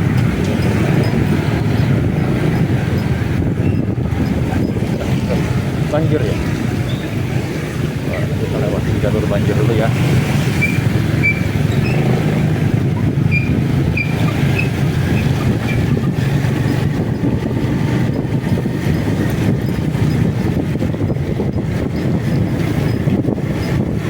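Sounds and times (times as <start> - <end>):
motorcycle engine running: 0.0 - 24.0
road noise: 0.0 - 24.0.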